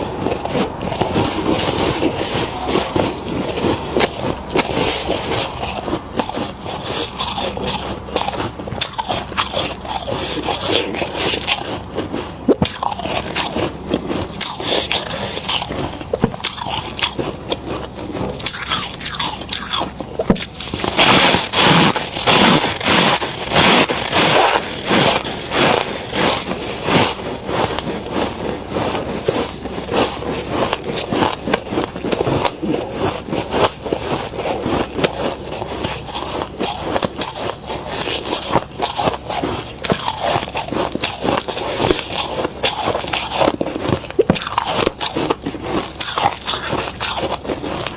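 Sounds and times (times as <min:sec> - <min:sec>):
freezer frost crunching: 0:00.0 - 0:47.9.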